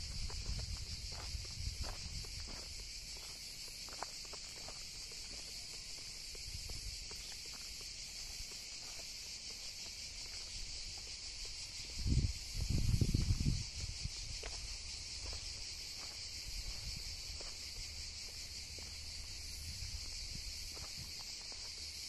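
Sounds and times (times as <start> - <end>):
faint footsteps: 0.0 - 21.9
insects chorus: 0.0 - 22.0.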